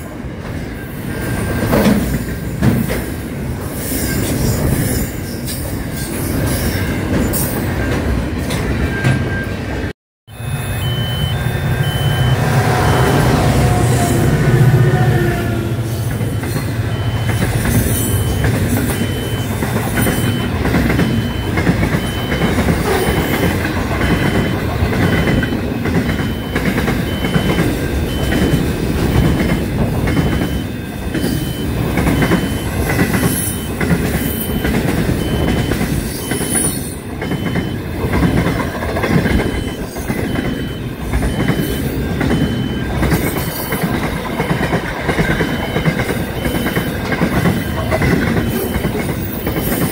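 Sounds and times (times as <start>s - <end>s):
clickety-clack over rail joints: 0.0s - 9.5s, 16.1s - 49.9s
train wheels rumbling on rails: 0.0s - 9.9s, 11.1s - 49.9s.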